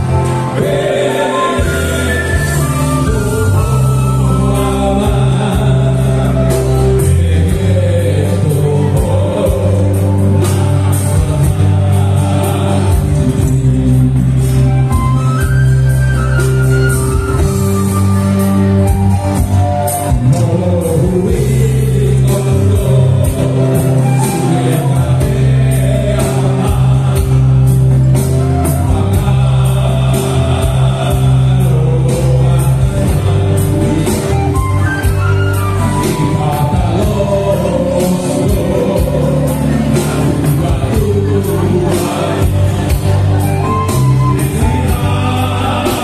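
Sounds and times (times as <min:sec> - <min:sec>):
men singing together: 0:00.0 - 0:17.8, 0:19.7 - 0:46.0
band with acoustic guitar: 0:00.0 - 0:46.0.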